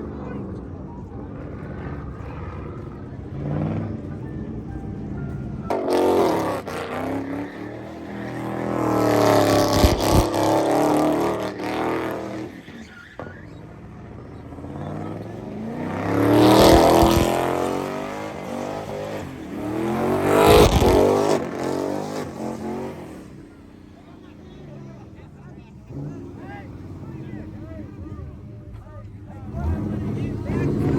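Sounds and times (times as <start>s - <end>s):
cars accelerating past: 0.0s - 30.9s.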